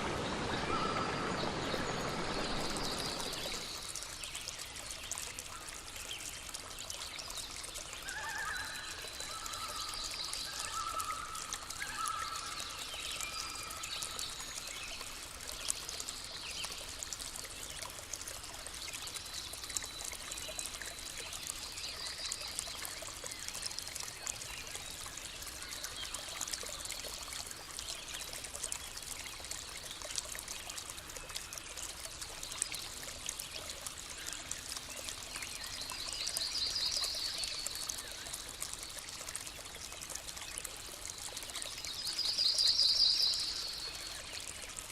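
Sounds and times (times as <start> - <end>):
stream trickling and splashing: 0.0 - 44.9.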